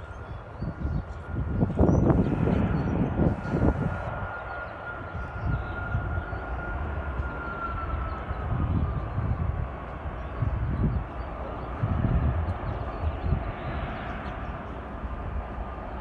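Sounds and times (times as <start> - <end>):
jet engine whine: 0.0 - 16.0
low jet rumble: 0.0 - 16.0.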